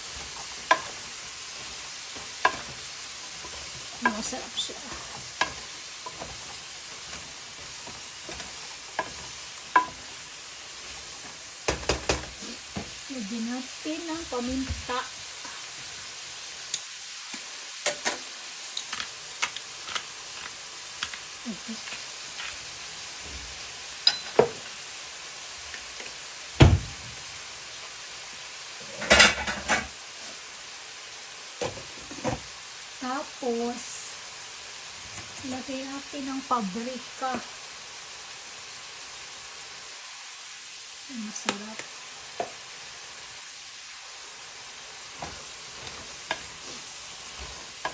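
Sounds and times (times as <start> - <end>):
food sizzling in a pan: 0.0 - 47.9.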